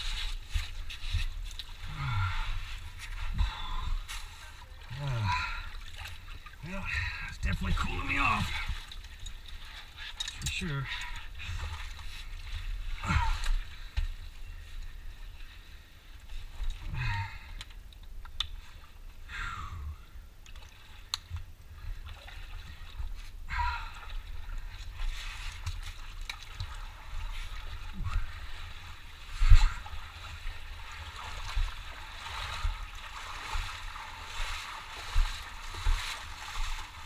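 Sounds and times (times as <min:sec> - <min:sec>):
feet wading through muddy water: 0:00.0 - 0:17.6, 0:18.6 - 0:37.0.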